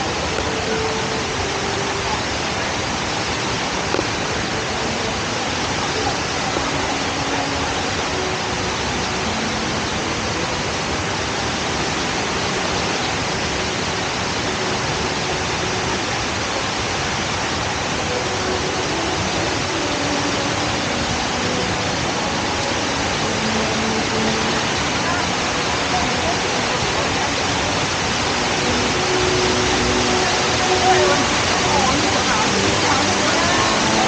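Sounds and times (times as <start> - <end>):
indoor waterfall roaring: 0.0 - 34.0.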